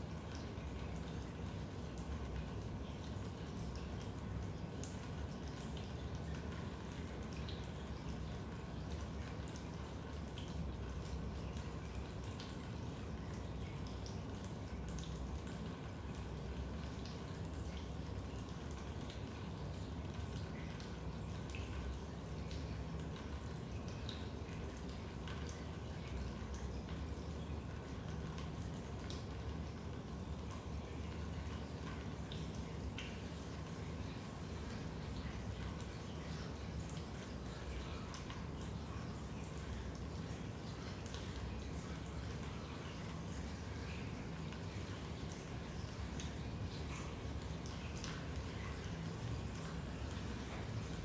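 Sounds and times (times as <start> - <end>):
raindrops dripping: 0.0 - 51.0.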